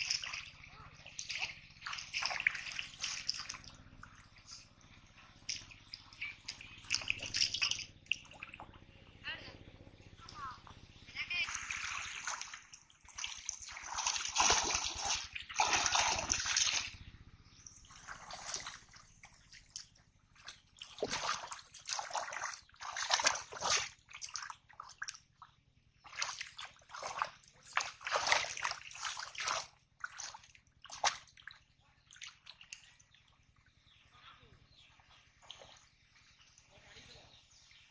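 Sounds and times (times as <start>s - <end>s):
muddy water splashing: 0.0s - 37.9s.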